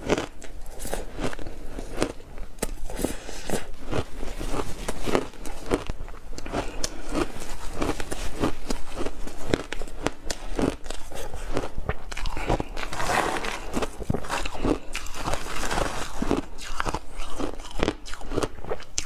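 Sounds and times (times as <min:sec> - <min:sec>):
ice crunched between teeth: 0:00.0 - 0:19.0.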